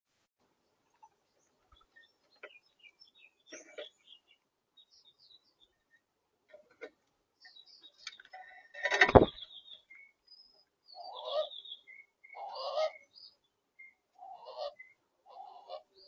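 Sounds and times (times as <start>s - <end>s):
birds chirping: 0.6s - 16.0s
harsh buzzy bird calls: 0.9s - 6.0s, 7.4s - 16.0s.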